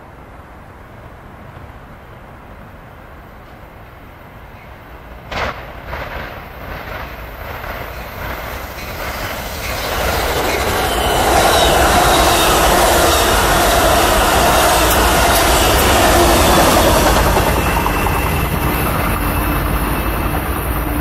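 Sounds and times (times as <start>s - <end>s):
train passing on rails: 0.0s - 21.0s.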